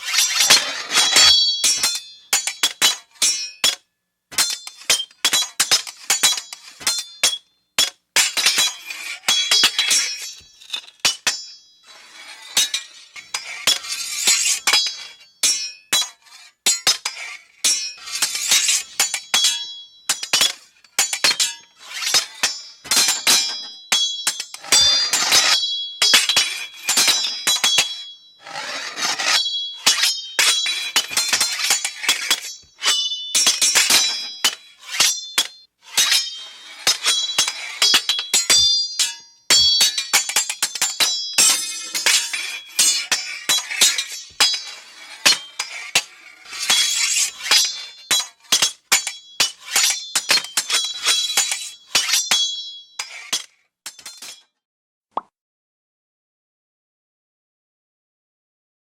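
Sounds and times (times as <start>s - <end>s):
sword blades clashing: 0.0s - 54.4s.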